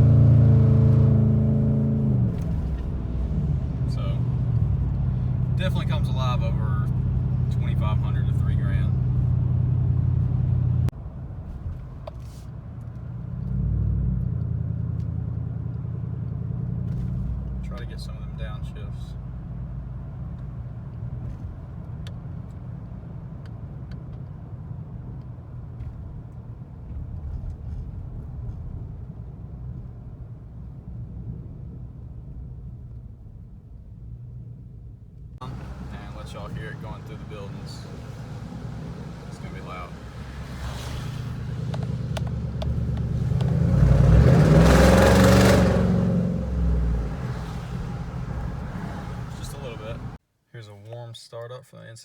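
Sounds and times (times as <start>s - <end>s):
car engine low drone: 0.0s - 50.2s
truck exhaust accelerating: 0.0s - 50.2s.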